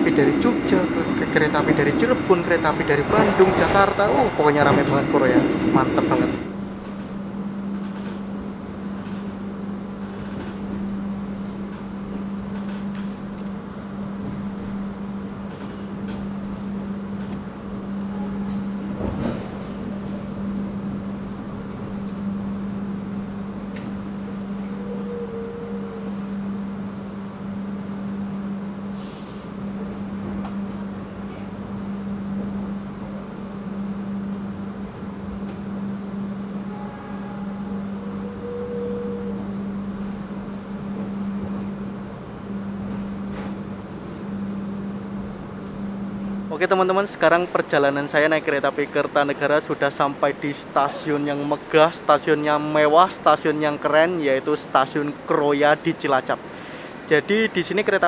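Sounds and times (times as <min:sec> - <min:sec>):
steady low hum: 0:00.0 - 0:50.8
train rolling rumble: 0:00.0 - 0:58.0.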